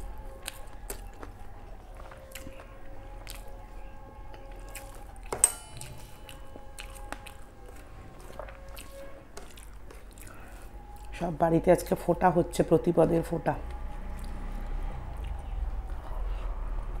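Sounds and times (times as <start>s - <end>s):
soft squishing of food chewed: 0.0s - 17.0s.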